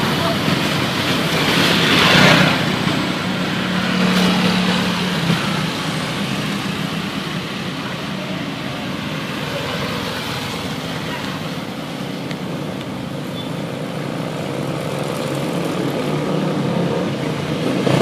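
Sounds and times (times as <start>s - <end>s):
vehicle rushing by: 0.0s - 11.9s, 14.2s - 18.0s
tyre and road noise: 0.0s - 18.0s.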